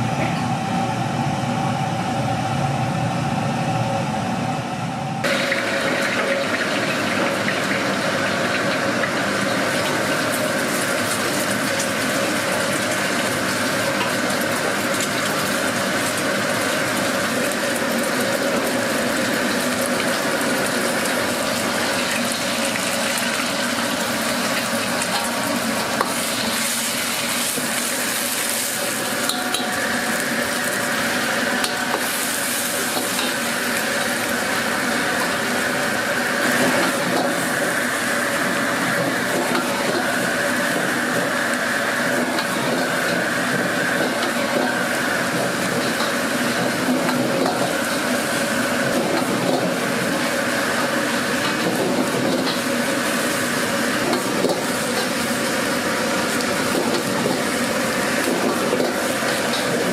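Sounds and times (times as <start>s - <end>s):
rice sizzling in a pan: 5.2s - 59.9s.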